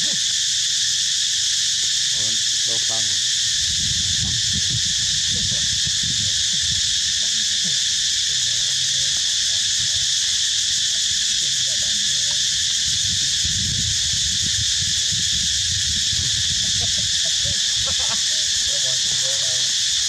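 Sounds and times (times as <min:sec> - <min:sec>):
shrill insect chorus: 0:00.0 - 0:20.0.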